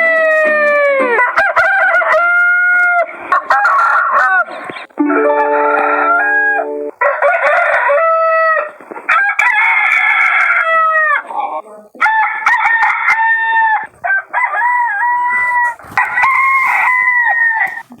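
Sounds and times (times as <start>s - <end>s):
rooster crowing: 0.0s - 11.3s, 12.0s - 18.0s.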